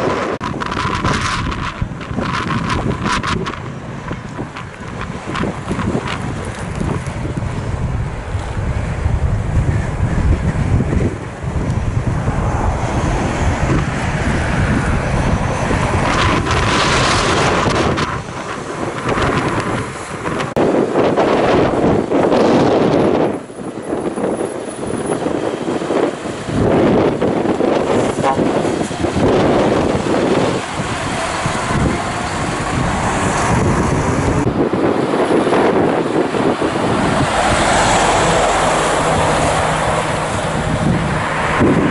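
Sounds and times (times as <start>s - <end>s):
truck approaching: 0.0s - 41.9s
wind buffeting microphone: 0.0s - 41.9s
heavy truck passing by: 4.3s - 41.9s.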